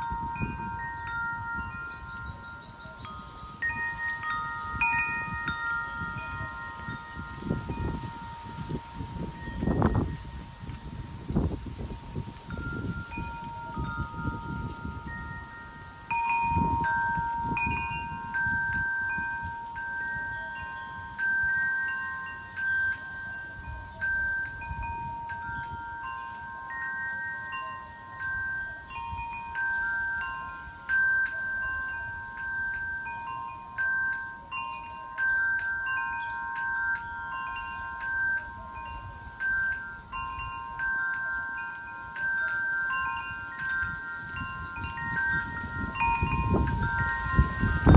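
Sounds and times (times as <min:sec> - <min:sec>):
wind chimes ringing: 0:00.0 - 0:47.9
wind rumble on microphone: 0:00.0 - 0:47.9.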